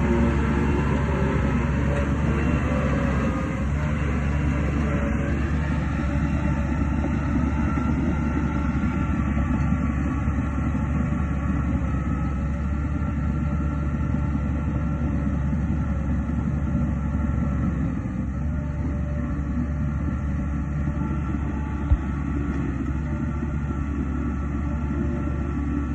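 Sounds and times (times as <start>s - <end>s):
bulldozer diesel engine drone: 0.0s - 25.9s.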